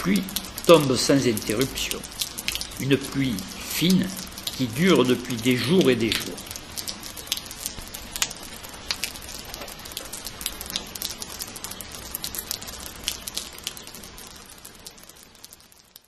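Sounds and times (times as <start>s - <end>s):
fine steady rain: 0.0s - 16.0s.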